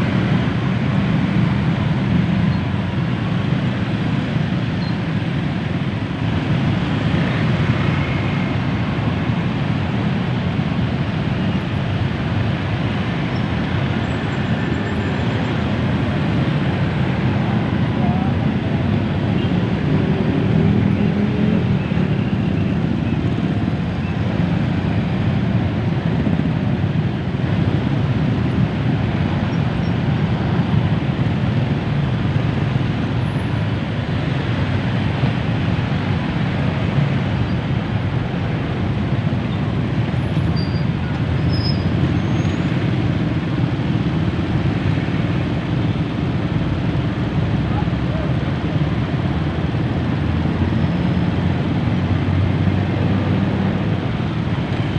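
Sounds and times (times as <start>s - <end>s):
traffic jam rumble: 0.0s - 54.9s.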